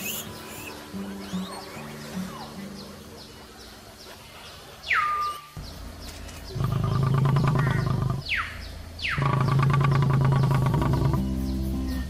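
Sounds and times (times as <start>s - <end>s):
low buzzing pulsing calls: 0.0s - 3.9s, 4.8s - 12.0s.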